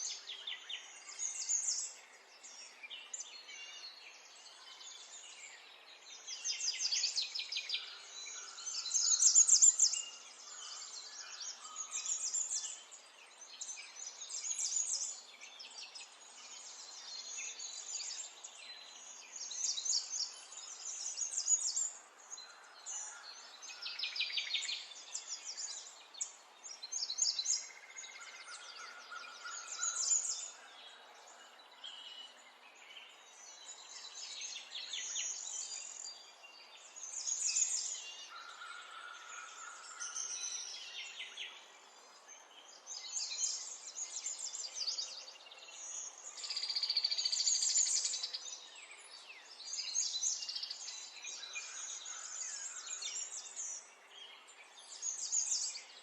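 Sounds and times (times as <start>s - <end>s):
birds singing trills: 0.0s - 56.0s.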